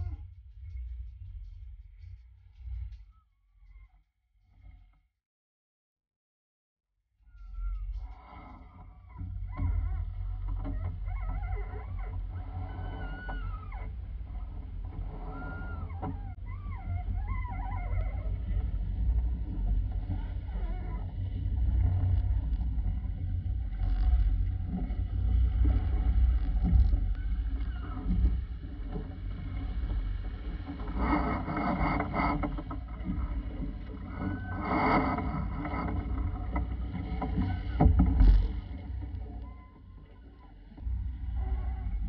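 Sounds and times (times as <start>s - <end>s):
water splashing along a hull: 8.1s - 42.0s.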